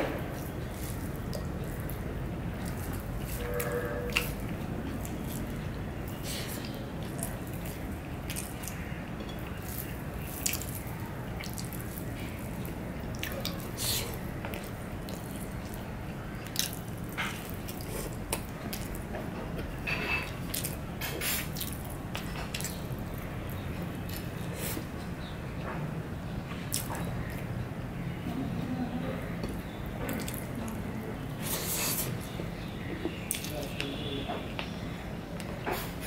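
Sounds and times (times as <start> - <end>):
wet eating by hand: 0.1 - 25.3, 26.6 - 34.0.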